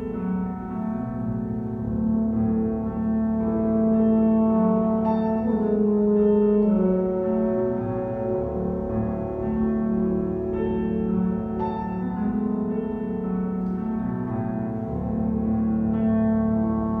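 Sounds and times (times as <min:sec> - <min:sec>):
alto saxophone melody: 0:00.0 - 0:17.0
piano chords: 0:00.0 - 0:17.0.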